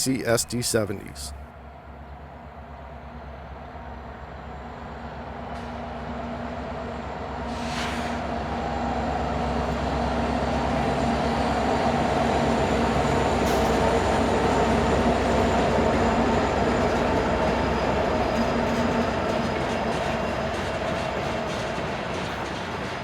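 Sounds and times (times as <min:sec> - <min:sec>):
freight train diesel engines droning: 0:00.0 - 0:23.0.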